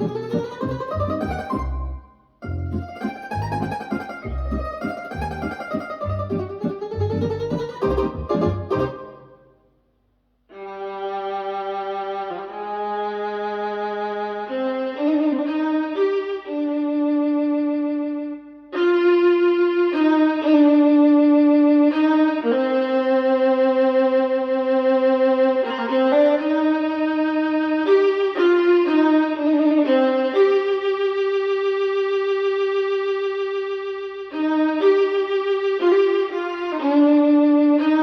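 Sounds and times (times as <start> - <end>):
violin music over speakers: 0.0 - 9.3, 10.5 - 38.0.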